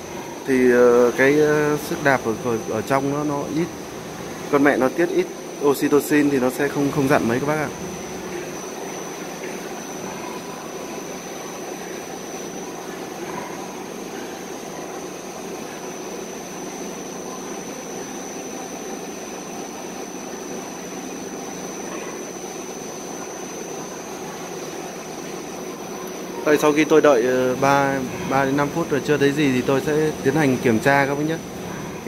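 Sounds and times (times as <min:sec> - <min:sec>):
mechanical drone and hiss: 0:00.0 - 0:32.0
thin high whine: 0:00.0 - 0:32.0.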